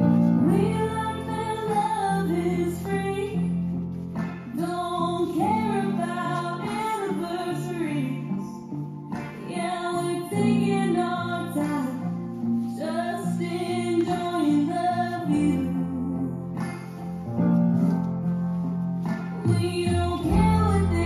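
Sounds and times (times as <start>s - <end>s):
song with female vocal: 0.0s - 17.5s, 19.1s - 21.0s.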